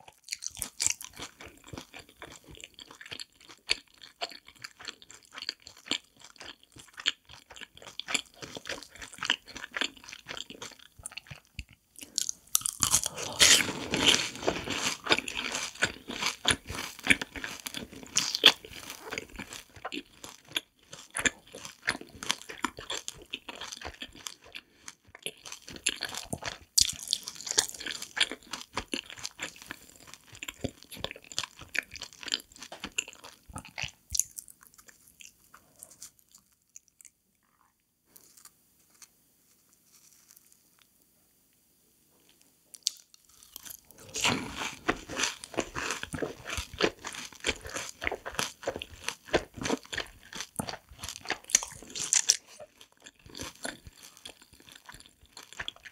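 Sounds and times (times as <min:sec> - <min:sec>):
crunchy chewing: 0:00.0 - 0:41.0, 0:42.3 - 0:55.9.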